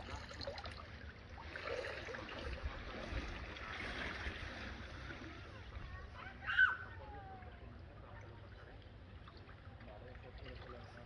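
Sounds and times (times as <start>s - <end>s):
pool water splashing and trickling: 0.0s - 11.0s.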